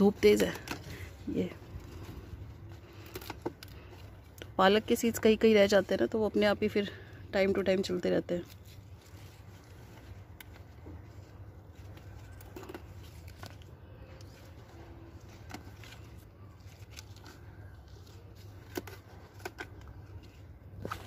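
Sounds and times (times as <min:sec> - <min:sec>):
foliage rustling: 0:00.0 - 0:21.0.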